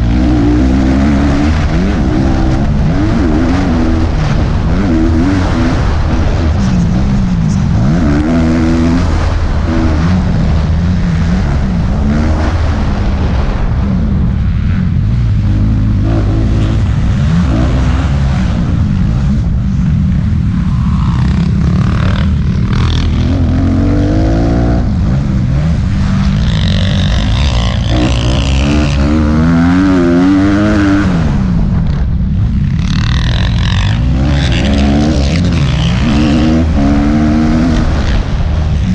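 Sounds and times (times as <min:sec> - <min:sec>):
motocross engines revving: 0:00.0 - 0:38.9
steady low rumble: 0:00.0 - 0:38.9.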